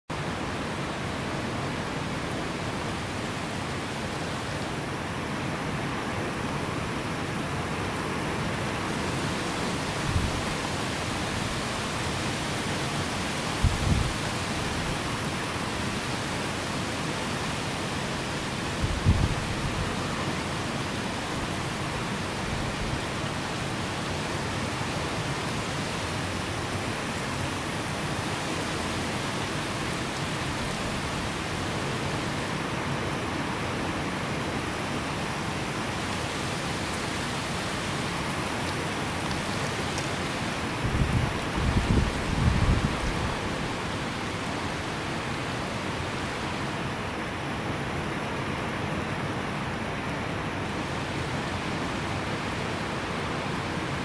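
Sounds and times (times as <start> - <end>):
heavy rain: 0.1 - 54.0.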